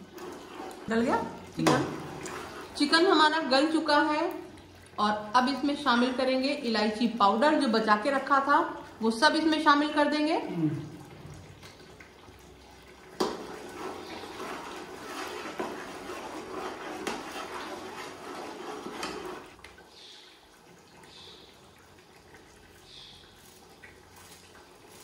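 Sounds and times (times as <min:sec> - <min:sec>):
liquid splashing and running: 0:00.0 - 0:25.0.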